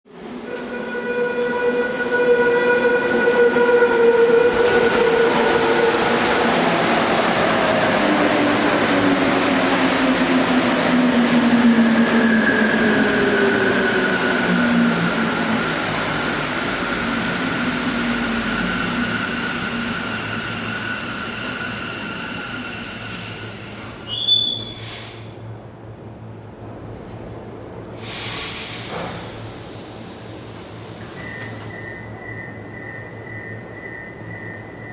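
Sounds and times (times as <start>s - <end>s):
train cars rushing past: 0.1s - 34.9s.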